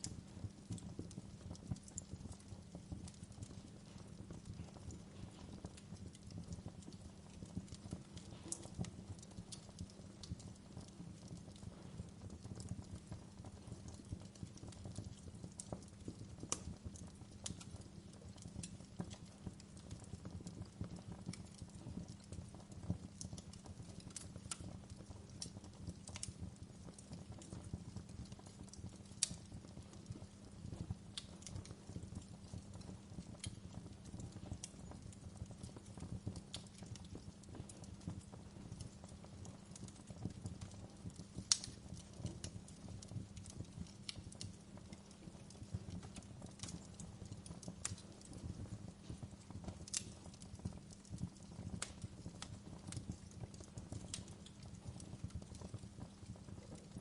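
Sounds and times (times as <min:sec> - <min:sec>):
burning wood crackling and popping: 0:00.0 - 0:57.0
low rumble of flame: 0:00.0 - 0:57.0.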